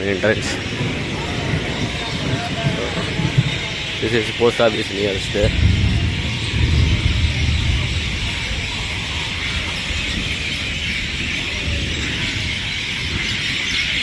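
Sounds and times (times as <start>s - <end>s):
night insects chorus: 0.0s - 14.0s
low rumble: 0.6s - 13.3s.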